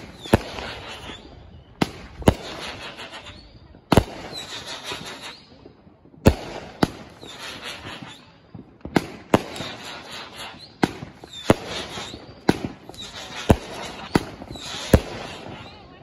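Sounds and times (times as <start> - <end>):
firework hiss: 0.0 - 5.6, 6.3 - 8.3, 9.1 - 16.0
firework bangs: 0.0 - 16.0.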